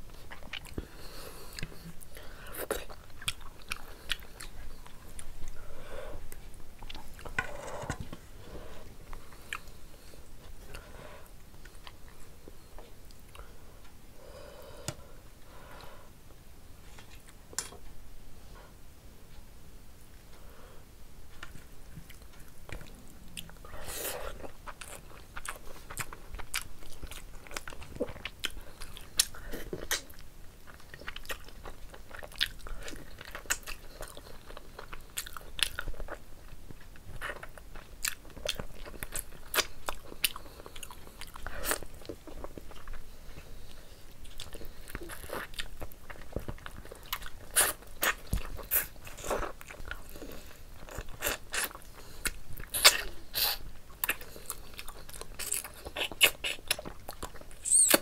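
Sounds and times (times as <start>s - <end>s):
person chewing food: 0.0s - 15.1s, 21.3s - 58.0s.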